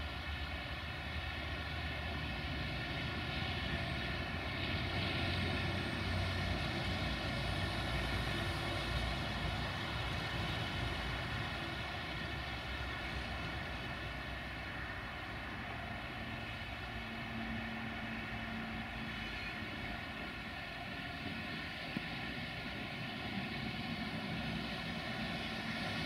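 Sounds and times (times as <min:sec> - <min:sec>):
diesel locomotive engine droning: 0:00.0 - 0:26.0
freight train rolling: 0:00.0 - 0:26.0.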